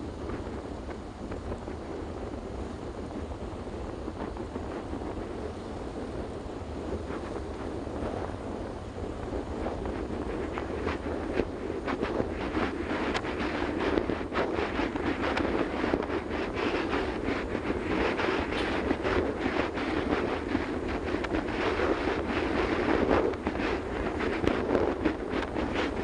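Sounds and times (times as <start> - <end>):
road noise: 0.0 - 26.0
wind buffeting microphone: 0.0 - 26.0.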